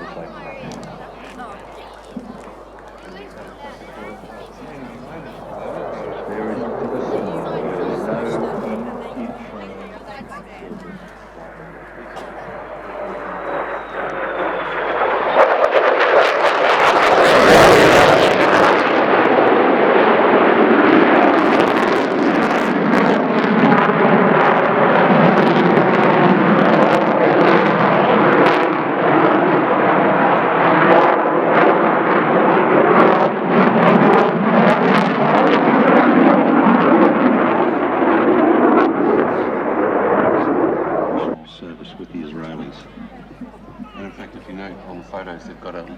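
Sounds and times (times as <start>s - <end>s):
jet engine roaring past: 0.0s - 45.9s.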